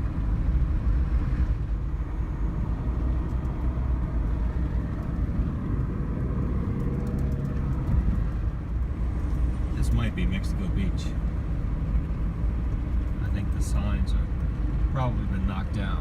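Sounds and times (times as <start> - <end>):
car road noise from inside cabin: 0.0 - 16.0.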